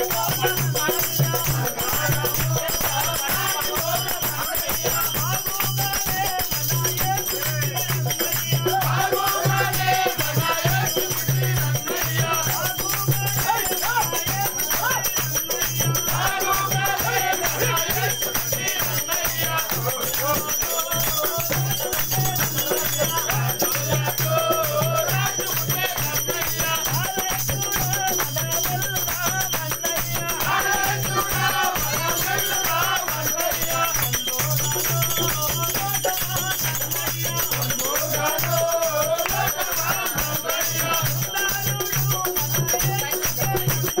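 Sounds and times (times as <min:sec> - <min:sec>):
group singing a carol: 0:00.0 - 0:44.0
hand clapping: 0:00.0 - 0:44.0
rattling percussion beat: 0:00.0 - 0:44.0.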